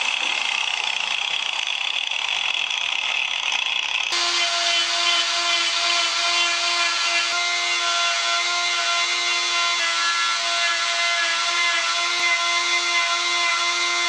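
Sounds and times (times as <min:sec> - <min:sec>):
power tool grinding wood: 0:00.0 - 0:14.0
rotary carving tool whining: 0:00.0 - 0:14.0.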